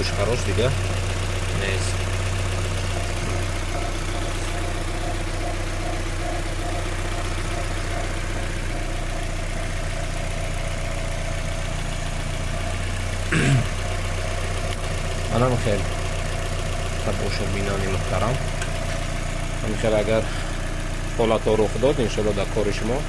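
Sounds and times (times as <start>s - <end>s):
petrol engine idling: 0.0s - 23.0s.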